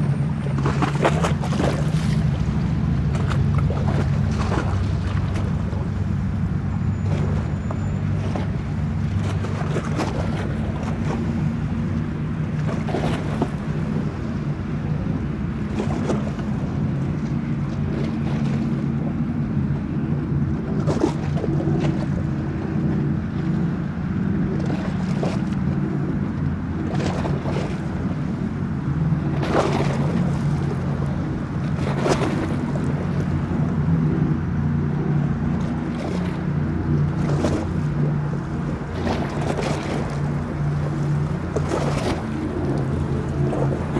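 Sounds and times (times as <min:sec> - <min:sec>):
choppy water splashing: 0:00.0 - 0:43.9
motorboat engine drone: 0:00.0 - 0:43.9
wind buffeting microphone: 0:00.0 - 0:43.9.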